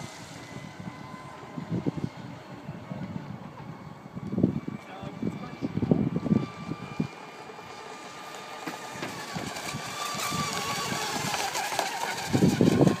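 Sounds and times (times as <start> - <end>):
small motor whining: 0.0 - 13.0.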